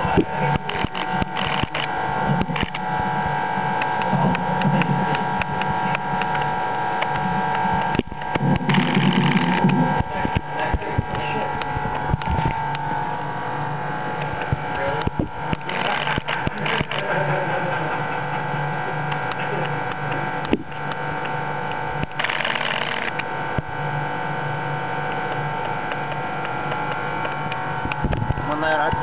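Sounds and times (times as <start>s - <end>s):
vacuum equipment humming: 0.0s - 29.0s.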